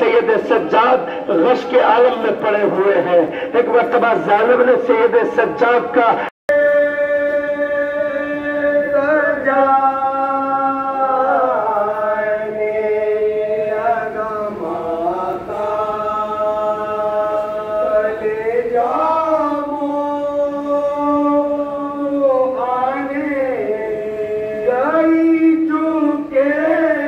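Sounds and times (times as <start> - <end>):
man chanting a lament: 0.0 - 27.0.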